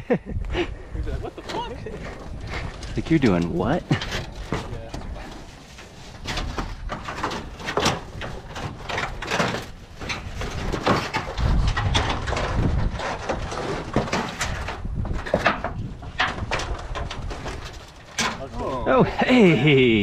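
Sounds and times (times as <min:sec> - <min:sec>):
scrapes: 0:00.6 - 0:19.9
rustles: 0:00.6 - 0:20.0.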